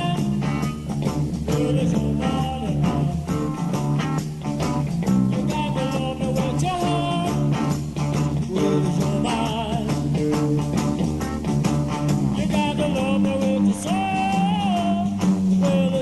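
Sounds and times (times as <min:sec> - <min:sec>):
drums and bass: 0:00.0 - 0:16.0
electric guitar lines: 0:00.0 - 0:16.0.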